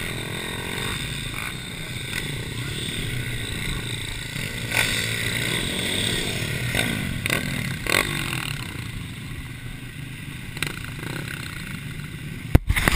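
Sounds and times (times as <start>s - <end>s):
mini bike engines revving: 0.0s - 12.9s.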